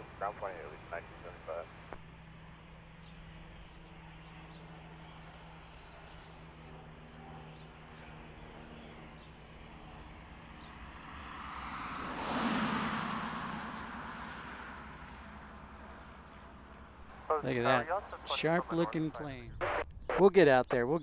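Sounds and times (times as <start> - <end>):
distant jet engines humming: 0.0 - 21.0.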